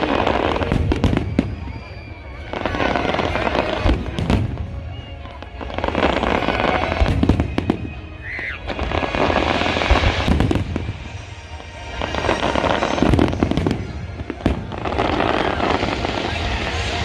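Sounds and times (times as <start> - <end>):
firework crackling: 0.0 - 17.0.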